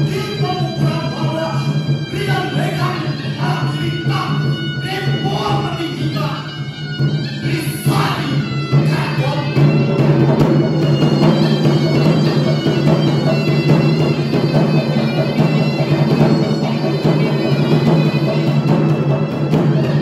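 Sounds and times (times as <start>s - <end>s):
reedy wind instrument melody: 0.0s - 20.0s.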